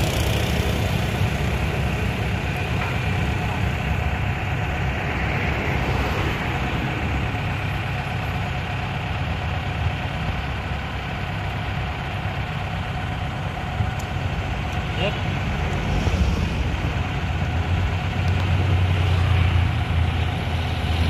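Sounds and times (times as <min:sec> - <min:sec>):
heavy diesel engines idling: 0:00.0 - 0:21.0.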